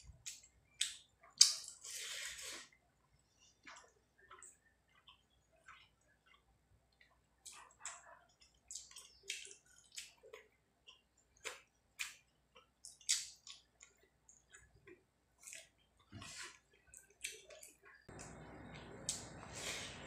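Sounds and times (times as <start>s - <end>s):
mouth smacks while chewing: 0.2s - 2.7s, 3.6s - 18.4s.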